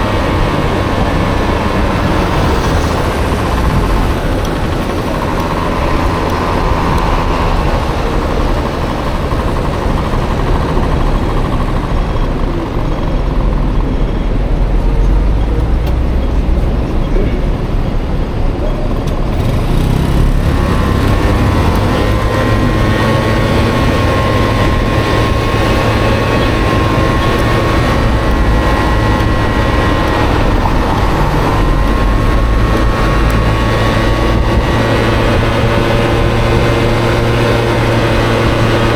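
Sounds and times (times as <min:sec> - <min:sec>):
road and wind noise: 0:00.0 - 0:38.9
scooter engine running: 0:00.0 - 0:38.9
steady engine whine: 0:00.0 - 0:38.9.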